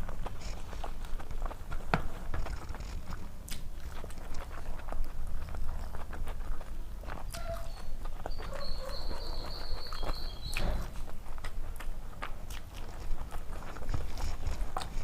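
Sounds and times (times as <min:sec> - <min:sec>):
food crunching: 0:00.0 - 0:15.0
person chewing: 0:00.0 - 0:15.0.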